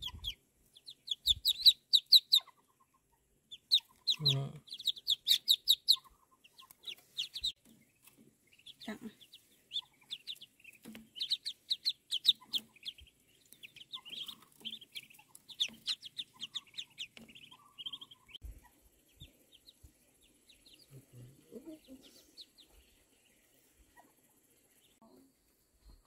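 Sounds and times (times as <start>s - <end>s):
ducklings peeping: 0.0s - 25.3s.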